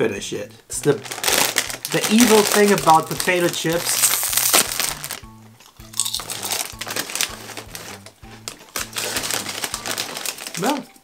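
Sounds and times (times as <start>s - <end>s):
background music: 0.0s - 11.0s
chip bag crinkling: 0.8s - 5.2s, 6.0s - 11.0s
hands rustling in bag: 1.0s - 5.2s, 6.2s - 11.0s.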